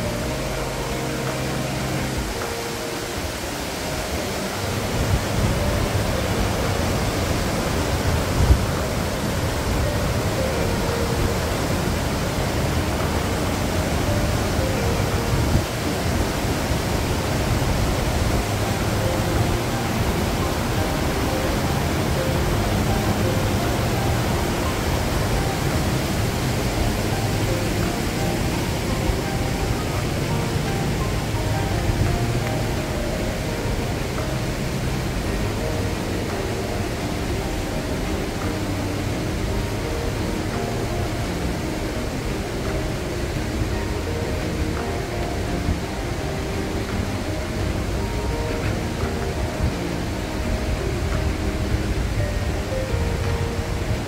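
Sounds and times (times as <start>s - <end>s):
water rushing in a gorge: 0.0s - 54.0s.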